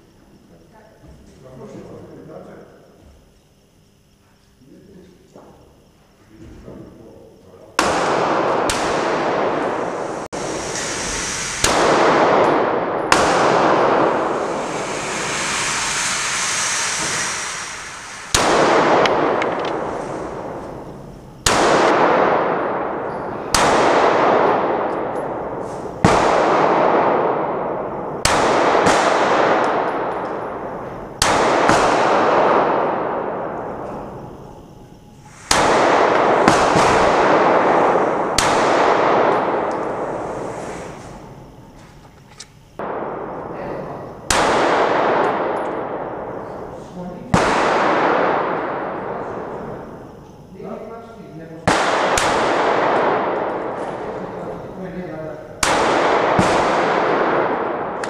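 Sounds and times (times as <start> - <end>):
pistol shots echoing indoors: 7.7 - 15.2, 17.0 - 58.0.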